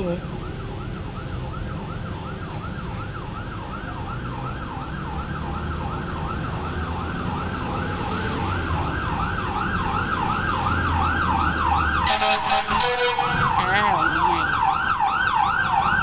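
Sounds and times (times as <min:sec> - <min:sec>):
siren yelping: 0:00.0 - 0:16.0.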